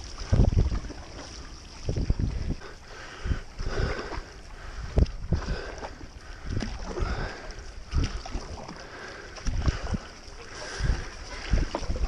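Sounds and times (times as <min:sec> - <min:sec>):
paddle stroking through water: 0:00.0 - 0:12.0.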